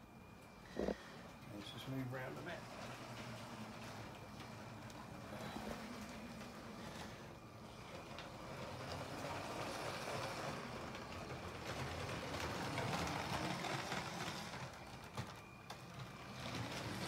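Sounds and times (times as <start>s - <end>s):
toy train whirring and rattling: 0.0s - 17.0s.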